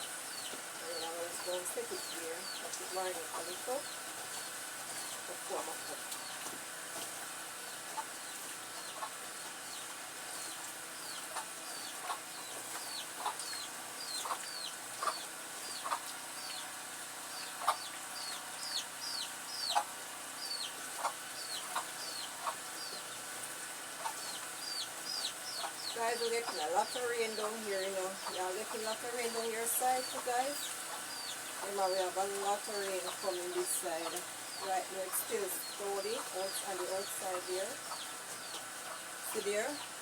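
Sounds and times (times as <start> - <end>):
chickens clucking: 0.0 - 40.0
steady high hiss: 0.0 - 40.0.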